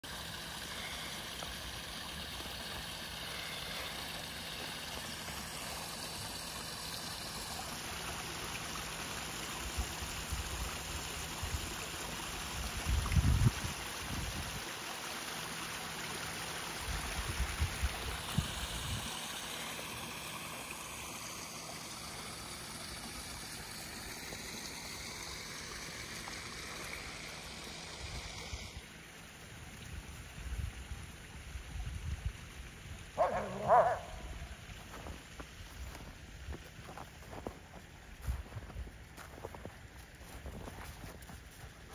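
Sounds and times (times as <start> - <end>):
water trickling down waterfall: 0.0 - 41.9.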